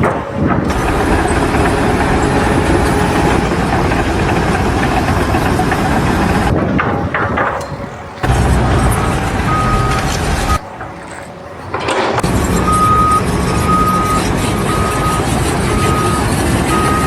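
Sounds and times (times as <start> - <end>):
engine running with rattling: 0.0 - 17.0.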